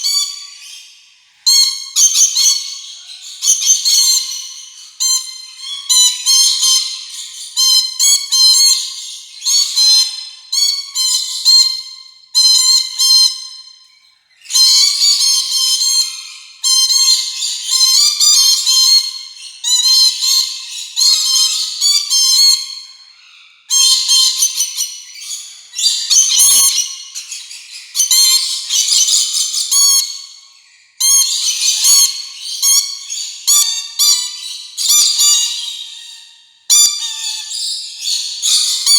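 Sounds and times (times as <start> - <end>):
lorikeets chattering: 0.0 - 38.9.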